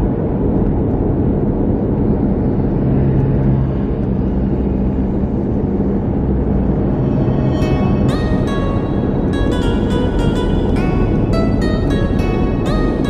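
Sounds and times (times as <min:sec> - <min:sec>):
car road rumble from inside cabin: 0:00.0 - 0:13.0.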